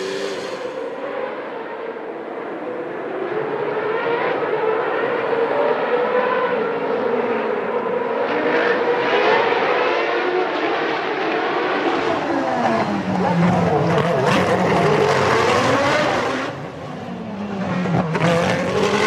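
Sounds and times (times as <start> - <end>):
racing car engines at high revs: 0.0 - 19.0.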